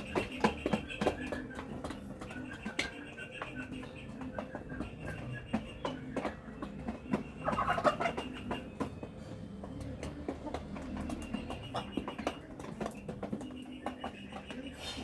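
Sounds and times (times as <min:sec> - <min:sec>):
chickens pecking at feed: 0:00.0 - 0:15.0.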